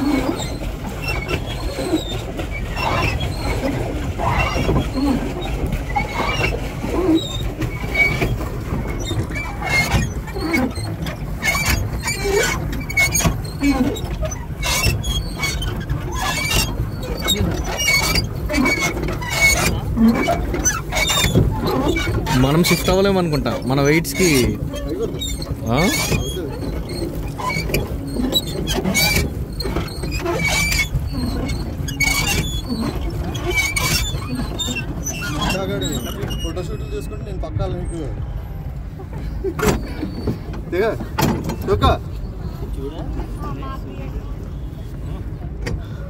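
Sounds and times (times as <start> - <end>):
pedal mechanism squeaking: 0.0 - 43.6.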